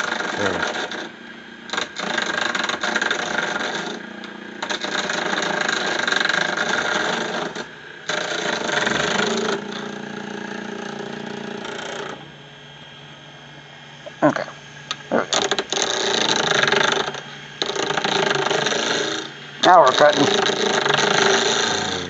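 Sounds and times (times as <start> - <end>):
turning tool cutting wood: 0.0 - 12.3, 14.9 - 22.0
wood lathe motor hum: 0.0 - 22.0.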